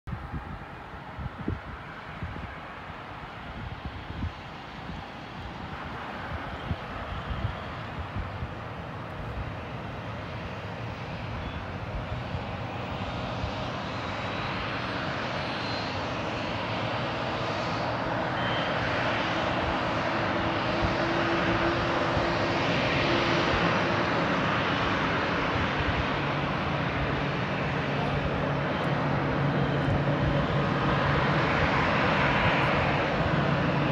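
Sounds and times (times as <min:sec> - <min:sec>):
jet engines running: 0:00.1 - 0:33.9.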